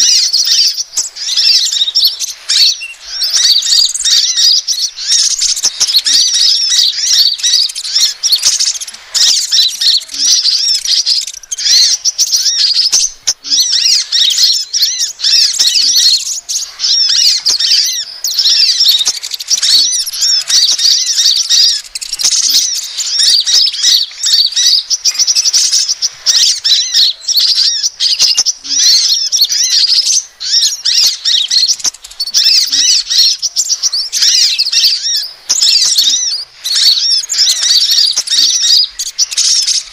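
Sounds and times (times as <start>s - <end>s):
sunbird chirps and twittering: 0.0s - 39.9s.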